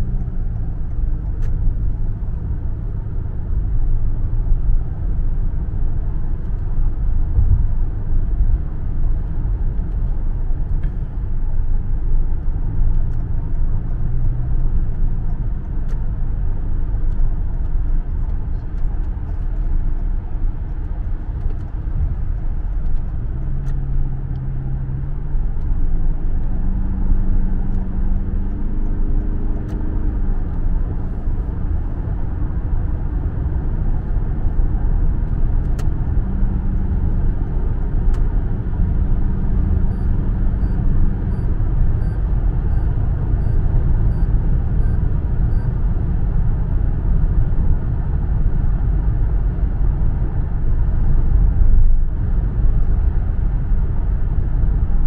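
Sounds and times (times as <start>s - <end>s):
road and engine rumble inside car: 0.0s - 55.0s.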